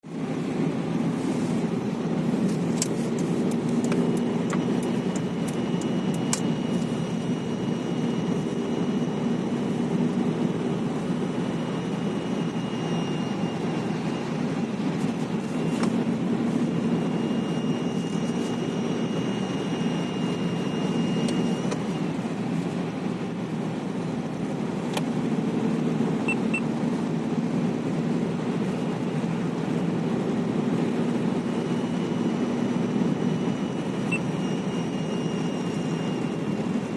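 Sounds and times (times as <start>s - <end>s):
petrol engine running: 0.0s - 36.9s.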